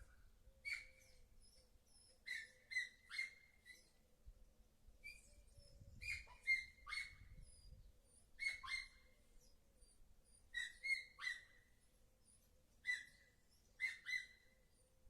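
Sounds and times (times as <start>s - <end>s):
bird chirping: 0.0s - 4.0s, 5.0s - 15.0s.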